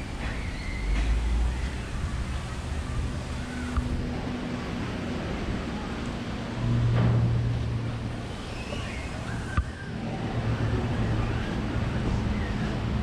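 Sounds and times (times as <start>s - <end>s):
low engine hum: 0.0s - 13.0s
rush of wind or water: 0.0s - 13.0s.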